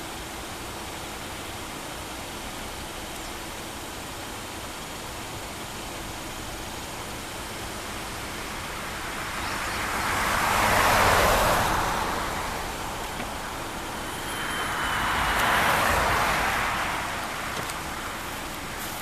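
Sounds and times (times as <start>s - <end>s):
vehicles passing on road: 0.0s - 19.0s.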